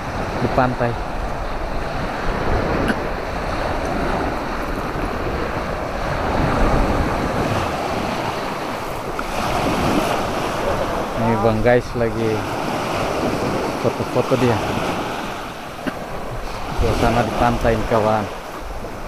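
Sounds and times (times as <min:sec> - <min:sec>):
surf washing onto beach: 0:00.0 - 0:19.0
wind buffeting microphone: 0:00.0 - 0:19.0.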